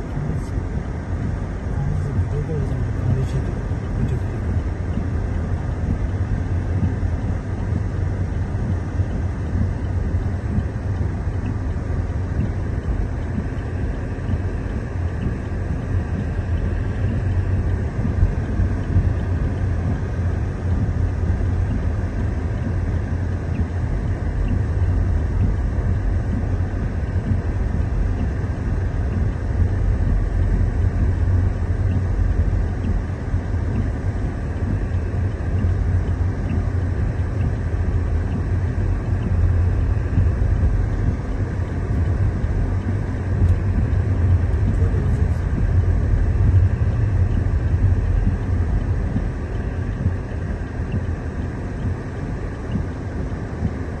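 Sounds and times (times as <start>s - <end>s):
car interior driving rumble: 0.0s - 54.0s.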